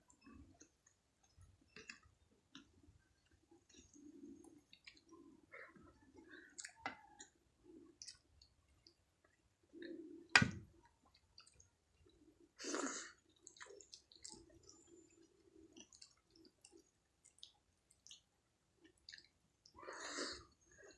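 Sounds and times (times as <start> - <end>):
soft chewing: 0.0 - 20.9.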